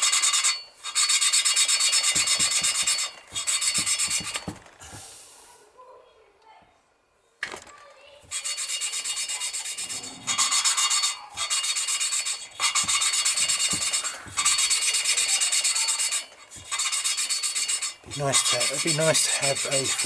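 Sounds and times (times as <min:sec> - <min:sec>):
gritty back-and-forth rasping: 0:00.0 - 0:05.3, 0:08.0 - 0:20.0.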